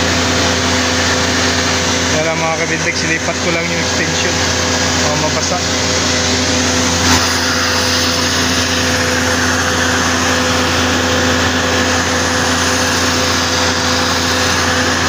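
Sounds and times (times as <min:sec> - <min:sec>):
motor hum: 0:00.0 - 0:15.0
pressure washer jet hissing: 0:00.8 - 0:15.0.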